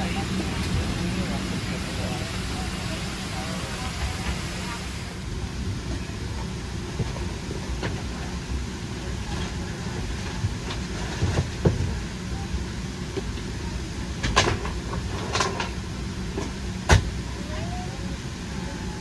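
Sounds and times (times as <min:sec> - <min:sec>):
cabin ventilation rumble: 0:00.0 - 0:19.0.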